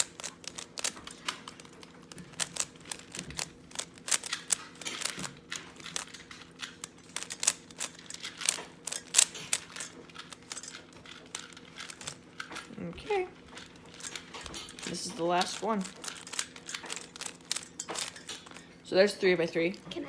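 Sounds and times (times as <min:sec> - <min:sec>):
speed cube clicking: 0:00.0 - 0:12.6, 0:13.5 - 0:18.6.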